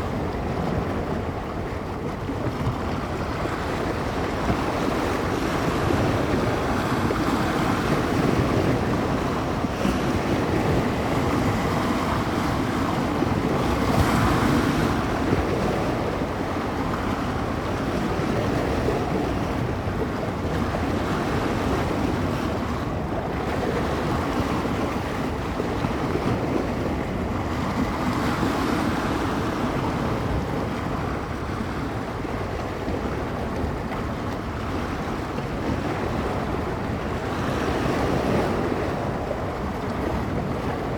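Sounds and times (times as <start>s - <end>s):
waves washing along shore: 0.0s - 40.9s
wind gusting on microphone: 0.0s - 40.9s.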